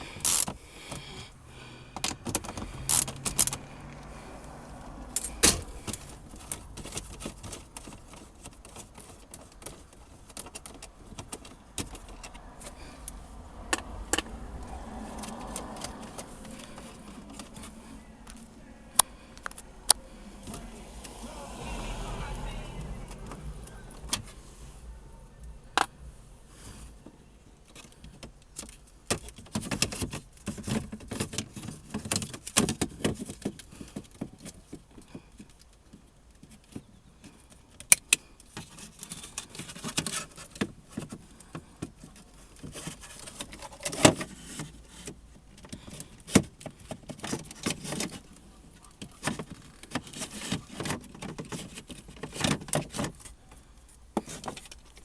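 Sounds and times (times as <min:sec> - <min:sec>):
clicks and clatter of plastic parts: 0:01.9 - 0:03.6, 0:05.1 - 0:20.6, 0:27.1 - 0:55.0.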